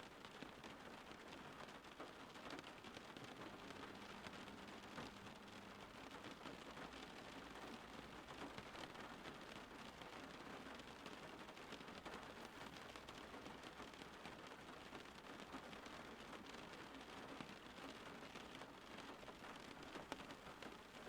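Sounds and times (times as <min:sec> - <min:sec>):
soft rain falling: 0:00.0 - 0:21.0.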